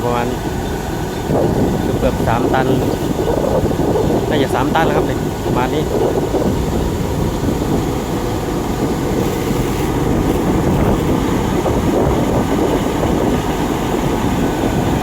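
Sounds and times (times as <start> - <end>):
combine harvester engine rumble: 0.0 - 15.0.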